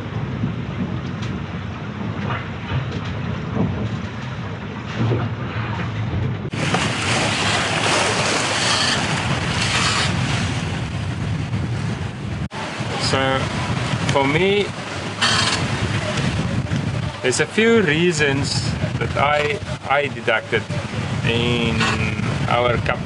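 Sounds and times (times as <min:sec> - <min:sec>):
breaking waves: 0:00.0 - 0:23.0
muffled water sloshing along hull: 0:00.0 - 0:23.0
wind: 0:00.0 - 0:23.0
wind on microphone: 0:00.0 - 0:23.0.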